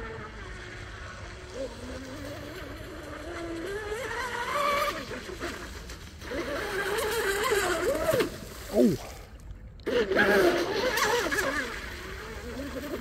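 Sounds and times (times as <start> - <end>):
electric boat motor whining: 0.0 - 9.0, 9.8 - 13.0
wind and water hiss: 0.0 - 13.0.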